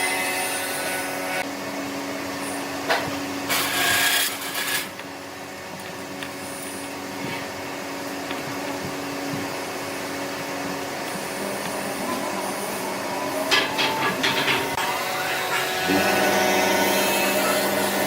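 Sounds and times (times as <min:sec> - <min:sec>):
electric motor humming: 0:02.9 - 0:18.0.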